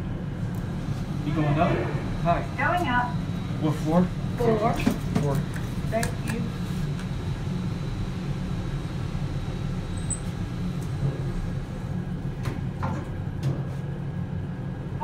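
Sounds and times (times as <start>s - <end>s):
elevator hum and rumble: 0.0s - 15.0s.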